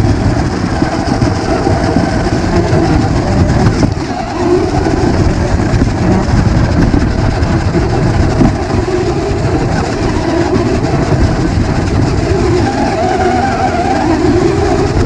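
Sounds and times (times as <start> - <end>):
toy car motor and gears rumbling: 0.0 - 15.0.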